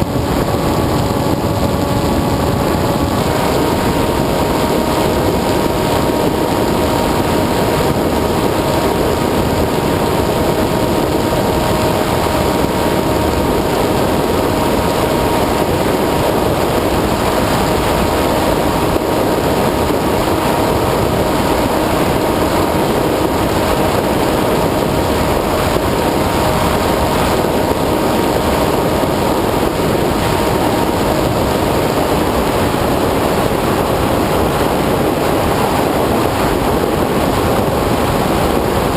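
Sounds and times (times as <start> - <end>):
model aircraft motor whine: 0.0 - 38.9
wind rush: 0.0 - 38.9.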